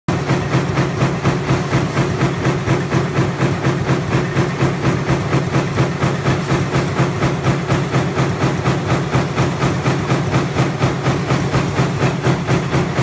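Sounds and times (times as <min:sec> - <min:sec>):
stamping press fast beat: 0:00.1 - 0:13.0.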